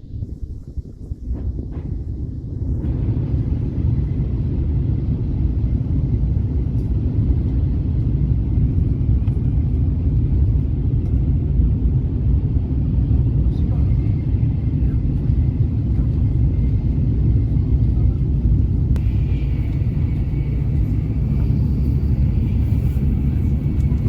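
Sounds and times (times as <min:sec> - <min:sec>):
low rumble of moving vehicle: 0:00.0 - 0:24.0.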